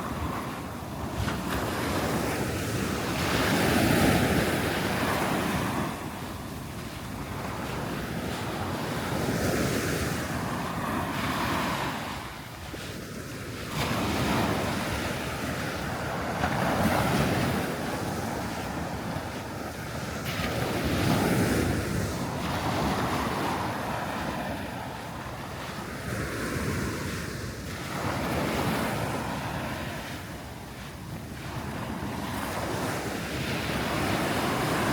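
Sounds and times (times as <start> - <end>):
sea waves breaking: 0.0 - 34.9
wind buffeting microphone: 0.0 - 34.9.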